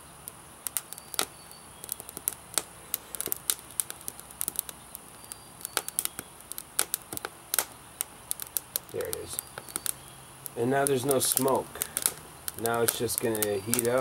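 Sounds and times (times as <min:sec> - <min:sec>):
twigs crackling in fire: 0:00.0 - 0:14.0.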